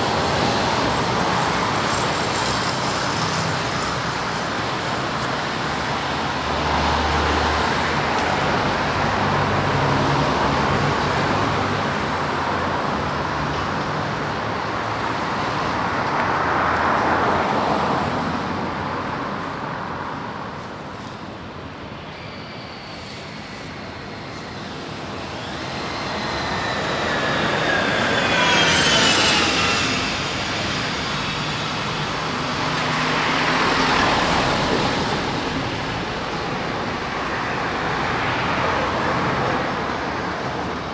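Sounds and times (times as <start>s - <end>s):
vehicle passing with falling whine: 0.0s - 18.8s, 22.0s - 40.9s
vehicles passing: 0.0s - 40.9s.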